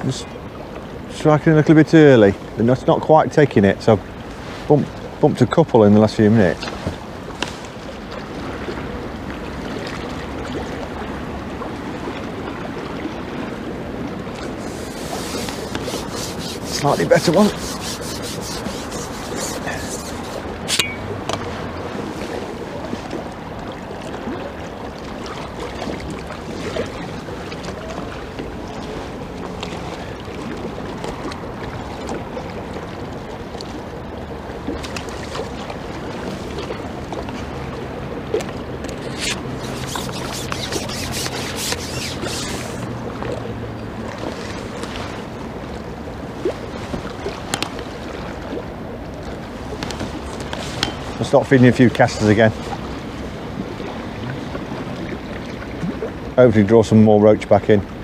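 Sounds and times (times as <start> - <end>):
river water: 0.0 - 58.0.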